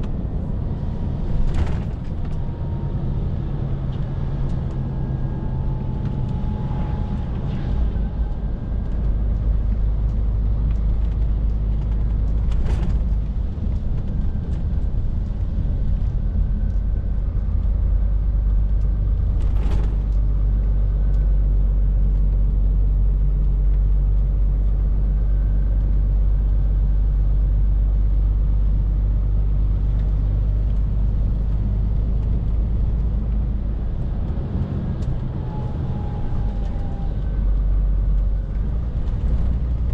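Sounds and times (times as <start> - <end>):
lorry diesel engine droning: 0.0 - 39.9
road noise inside cab: 0.0 - 39.9.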